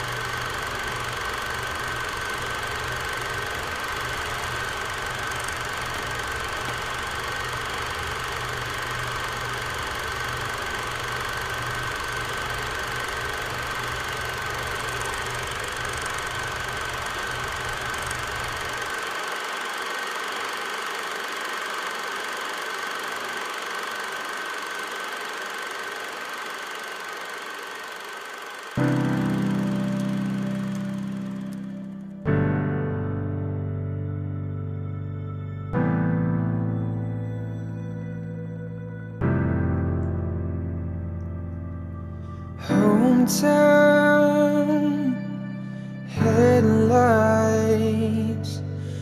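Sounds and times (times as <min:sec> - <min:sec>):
machine running with whine: 0:00.0 - 0:32.8, 0:34.2 - 0:49.0.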